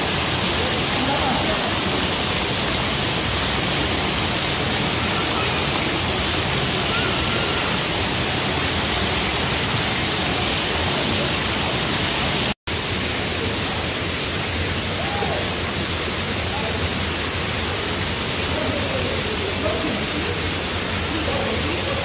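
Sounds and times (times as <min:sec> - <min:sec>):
splashing in a pool hall: 0:00.0 - 0:22.0.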